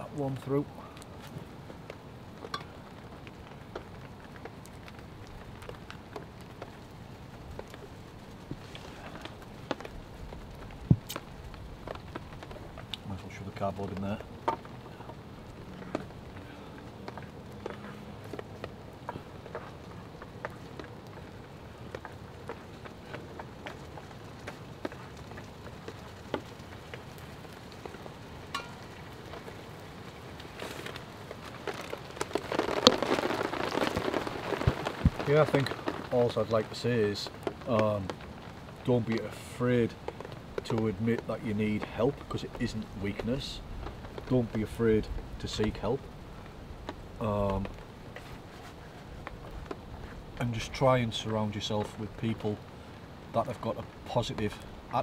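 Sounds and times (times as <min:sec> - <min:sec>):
rain pattering on a tarp: 0:00.0 - 0:55.0
steady low hiss: 0:00.0 - 0:55.0
wood fire crackling: 0:00.0 - 0:55.0.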